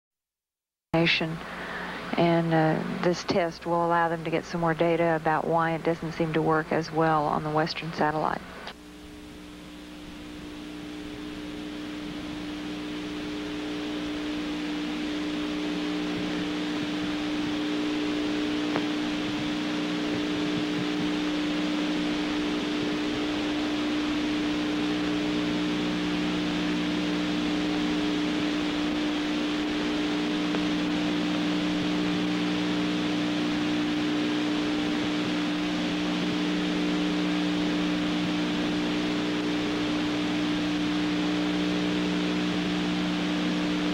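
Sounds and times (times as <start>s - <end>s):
radio channel hiss and hum: 1.0s - 43.9s.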